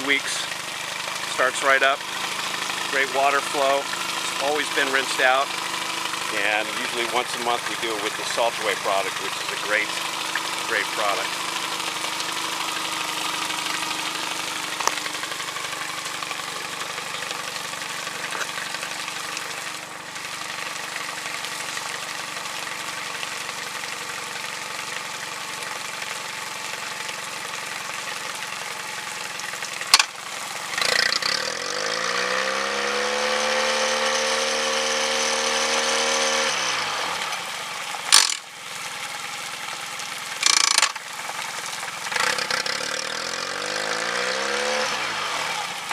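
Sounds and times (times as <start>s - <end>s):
outboard motor idling and revving: 0.0s - 45.9s.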